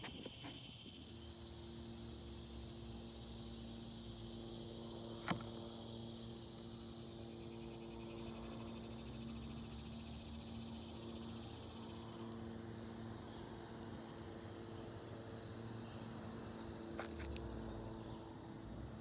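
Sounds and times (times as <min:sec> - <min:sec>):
insects trilling: 0:00.0 - 0:19.0
steady low hum: 0:00.0 - 0:19.0.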